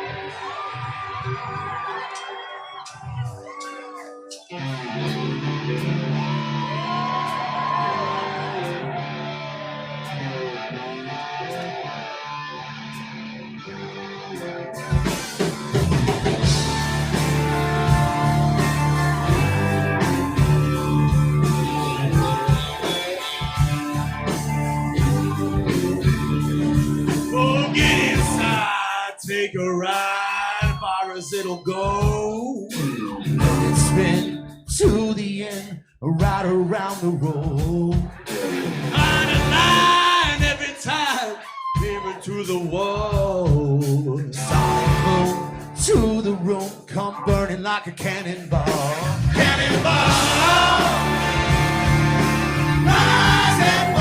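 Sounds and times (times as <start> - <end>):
rock band with electric guitar: 0.0 - 54.0.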